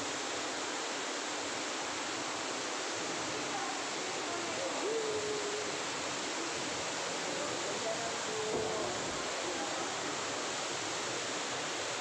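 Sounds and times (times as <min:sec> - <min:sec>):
waterfall pouring into pond: 0:00.0 - 0:12.0.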